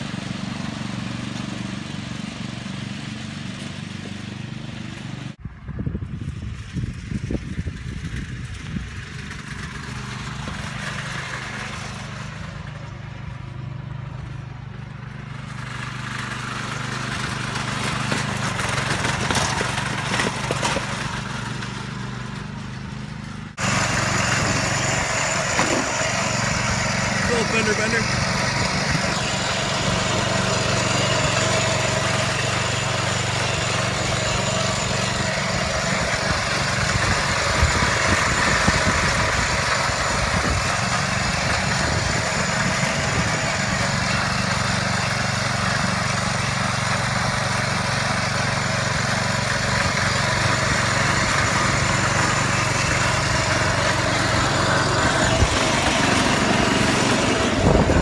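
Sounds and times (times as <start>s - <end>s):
small engine running steadily: 0.0s - 58.0s.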